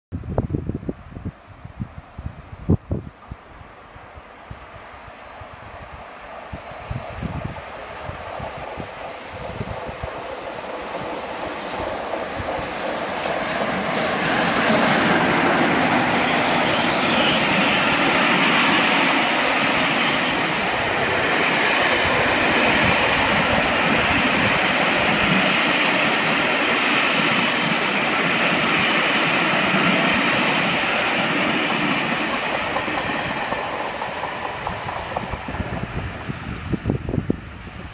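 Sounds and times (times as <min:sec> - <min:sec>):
steam train passing: 0:03.2 - 0:37.9.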